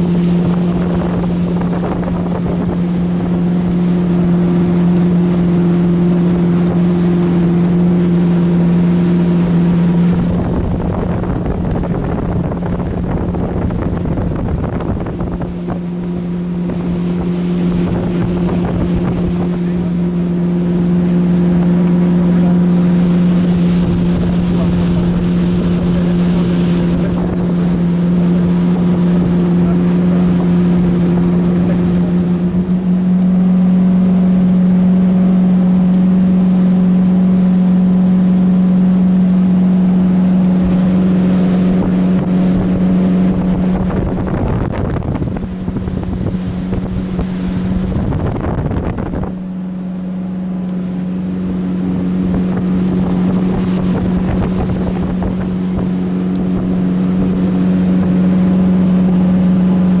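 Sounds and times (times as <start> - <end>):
motorboat engine hum: 0.0 - 60.0
wind and water rushing: 0.0 - 60.0.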